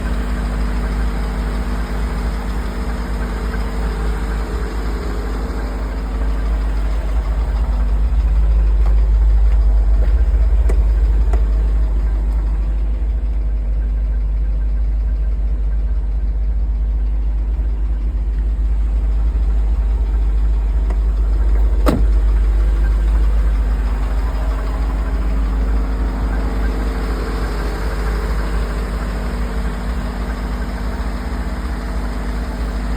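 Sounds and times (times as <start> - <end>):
car engine idling with knock: 0.0 - 32.9.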